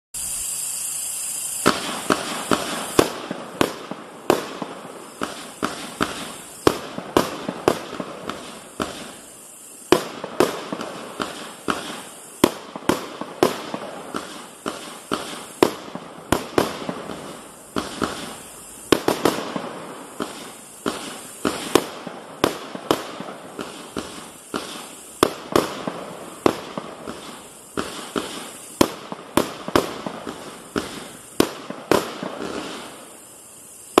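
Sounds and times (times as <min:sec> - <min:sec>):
fireworks hiss: 0:00.1 - 0:34.0
fireworks bangs: 0:00.2 - 0:34.0.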